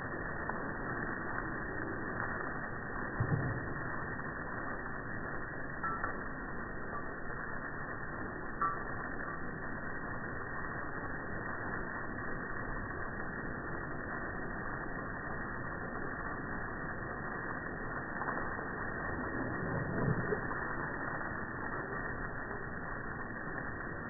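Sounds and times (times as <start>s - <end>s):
hose water jet spraying on grass: 0.0s - 24.0s.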